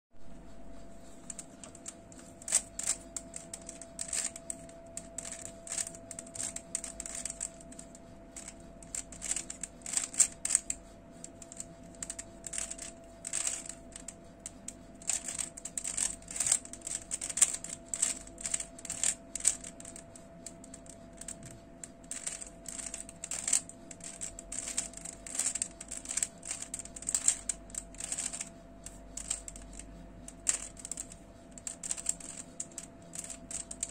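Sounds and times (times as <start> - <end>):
puzzle cube layers clicking: 1.2 - 14.1, 15.0 - 33.9.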